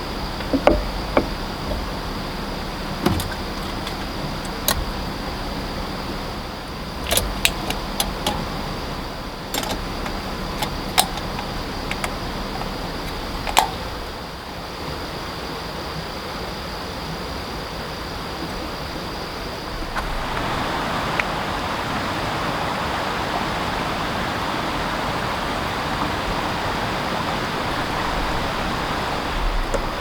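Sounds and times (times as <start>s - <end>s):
rushing water: 0.0s - 30.0s.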